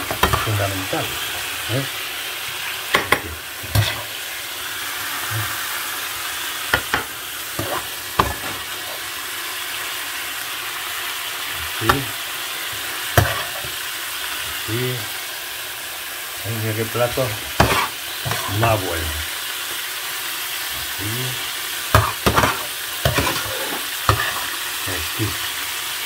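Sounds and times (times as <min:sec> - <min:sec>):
sauce sizzling: 0:00.0 - 0:26.0.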